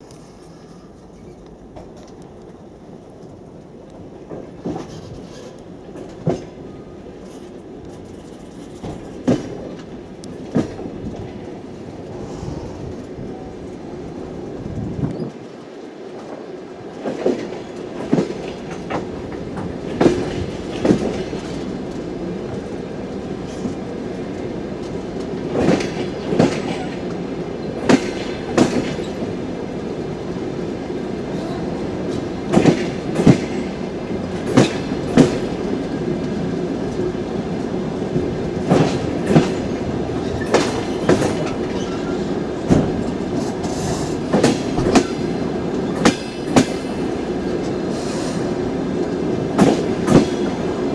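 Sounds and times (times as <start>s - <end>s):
train wheels clacking over rail joints: 0.0s - 13.4s, 16.2s - 50.9s
train rolling rumble: 0.0s - 50.9s.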